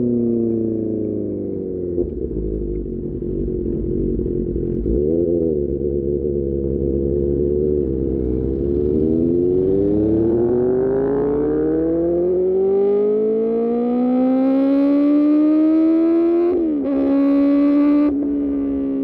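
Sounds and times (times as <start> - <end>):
motorcycle engine revving up: 3.5 - 19.0.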